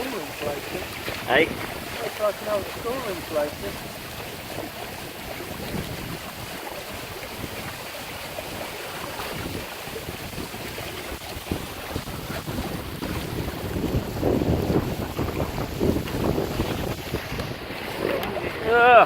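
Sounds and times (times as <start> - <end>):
water rushing along hull: 0.0 - 19.0
wind buffeting microphone: 0.0 - 19.0.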